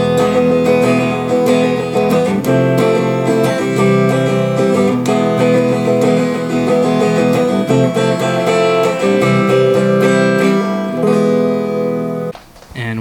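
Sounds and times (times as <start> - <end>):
guitar strummed in chords: 0.0 - 12.3.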